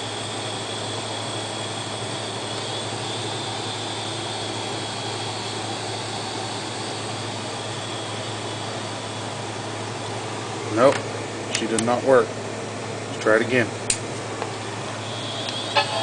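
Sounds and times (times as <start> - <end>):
hard drive whirring with high whine: 0.0 - 16.0.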